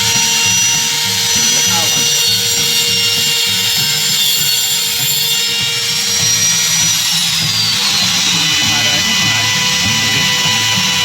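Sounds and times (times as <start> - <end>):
electric power tool whining: 0.0 - 11.0.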